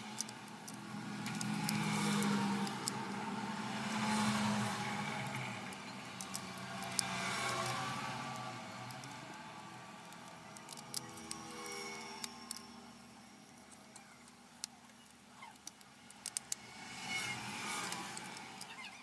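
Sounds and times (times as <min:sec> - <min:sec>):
small tools clicking and tapping: 0:00.0 - 0:03.2, 0:05.1 - 0:09.4, 0:10.0 - 0:13.0, 0:13.6 - 0:19.0.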